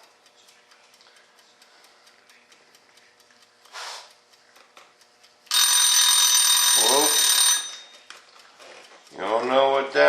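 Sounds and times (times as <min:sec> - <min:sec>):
faint steady ticking: 0:00.0 - 0:10.0.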